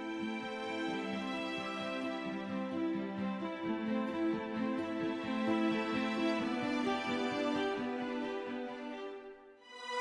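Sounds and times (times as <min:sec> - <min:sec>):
gentle slow background music: 0:00.0 - 0:10.0.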